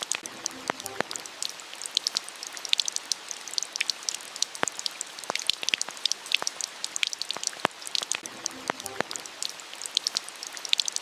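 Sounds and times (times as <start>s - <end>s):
rain falling: 0.0s - 11.0s
raindrops ticking on surfaces: 0.0s - 11.0s.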